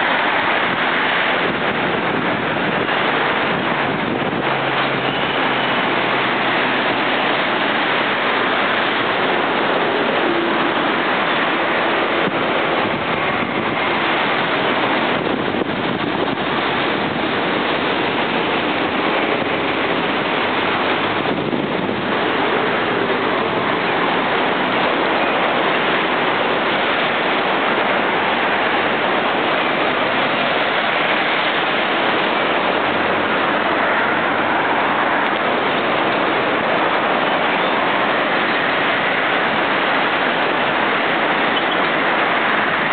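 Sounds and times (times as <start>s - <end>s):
ocean waves breaking: 0.0s - 42.9s.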